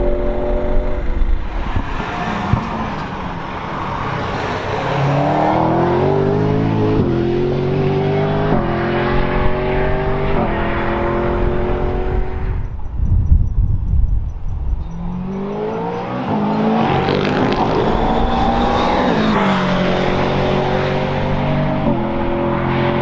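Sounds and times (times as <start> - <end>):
race car accelerating with upshifts: 0.0 - 12.7, 14.8 - 23.0.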